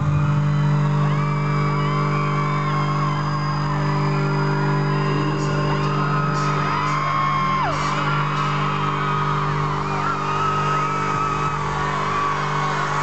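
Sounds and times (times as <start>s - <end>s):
crowd screaming and whooping: 0.0s - 13.0s
low electronic drone: 0.0s - 13.0s.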